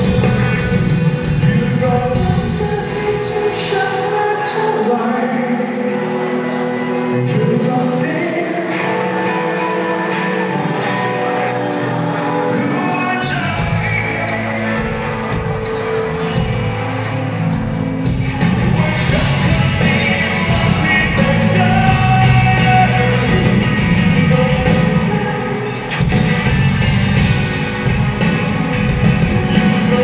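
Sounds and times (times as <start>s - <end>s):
man singing: 0.0s - 16.7s, 18.4s - 27.8s, 28.8s - 30.0s
live rock band playing: 0.0s - 30.0s.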